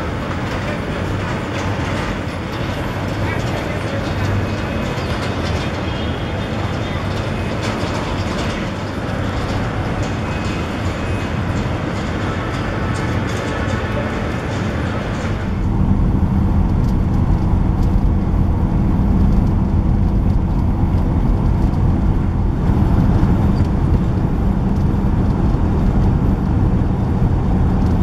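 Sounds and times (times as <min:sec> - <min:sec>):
road vehicle driving: 0:00.0 - 0:28.0.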